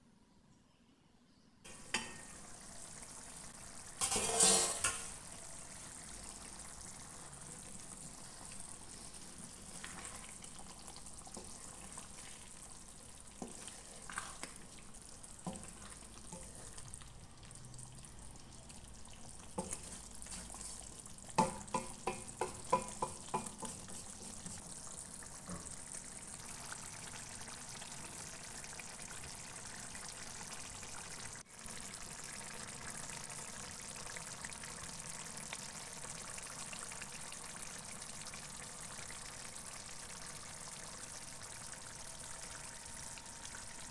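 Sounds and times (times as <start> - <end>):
curry simmering with hiss: 1.7 - 43.9.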